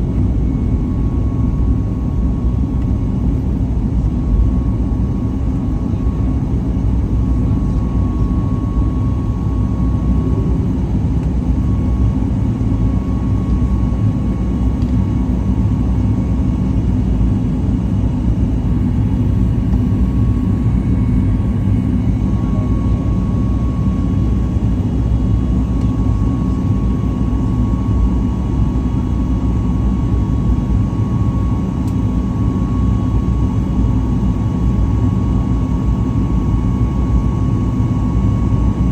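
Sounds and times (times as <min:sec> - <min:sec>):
faint steady whine: 0:00.0 - 0:38.9
jet cabin low rumble: 0:00.0 - 0:38.9.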